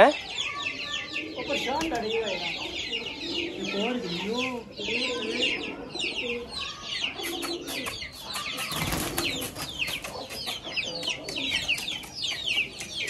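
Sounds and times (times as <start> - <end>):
birds chirping: 0.0 - 13.0
lower bird calls: 0.0 - 13.0.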